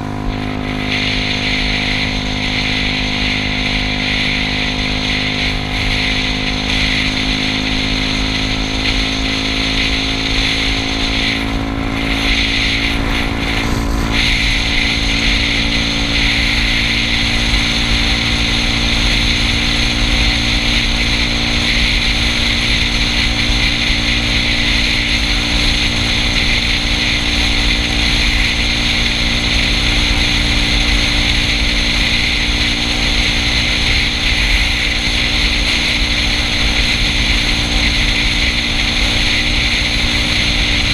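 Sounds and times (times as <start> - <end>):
road noise: 0.0 - 40.9
scooter engine running: 0.0 - 40.9
wind on microphone: 0.0 - 40.9.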